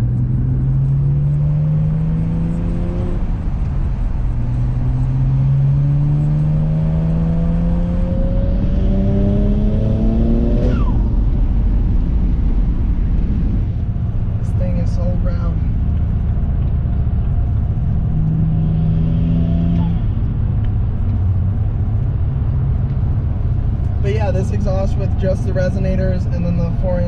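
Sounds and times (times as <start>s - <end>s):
car engine under full throttle: 0.0s - 27.0s.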